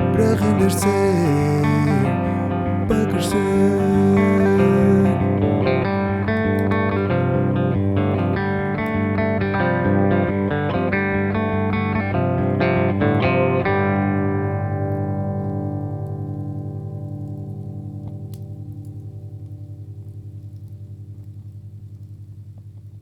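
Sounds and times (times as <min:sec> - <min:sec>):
guitar picking over drone: 0:00.0 - 0:21.8.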